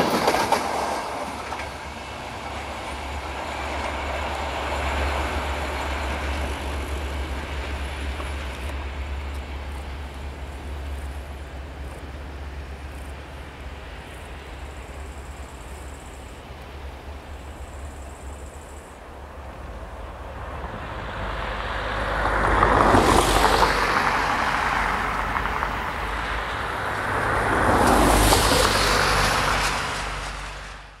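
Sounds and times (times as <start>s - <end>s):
rolling vehicle noise: 0.0s - 31.0s.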